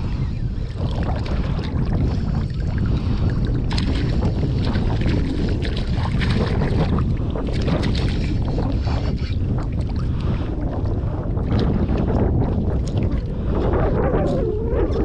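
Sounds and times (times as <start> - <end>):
water splashing and lapping: 0.0 - 15.0
wind rumble on microphone: 0.0 - 15.0.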